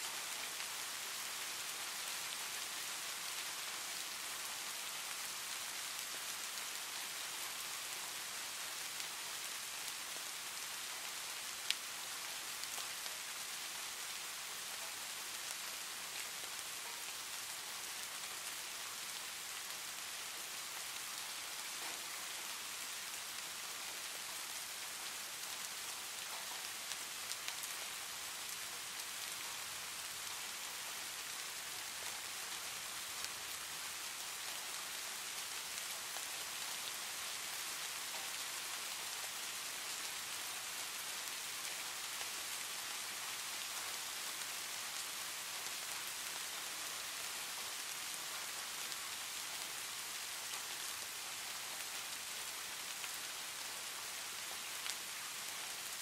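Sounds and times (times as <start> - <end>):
steady rain hiss: 0.0 - 56.0
faint raindrop ticks: 8.8 - 56.0.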